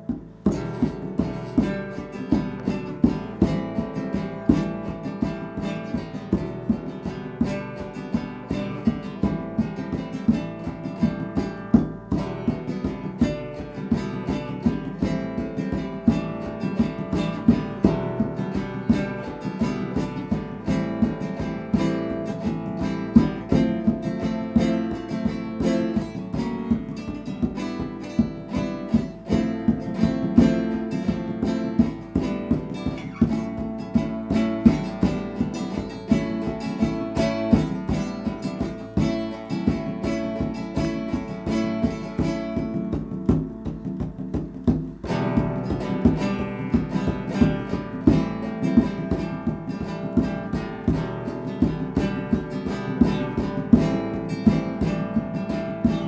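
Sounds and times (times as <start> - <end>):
acoustic guitar strummed and plucked: 0.0 - 56.0.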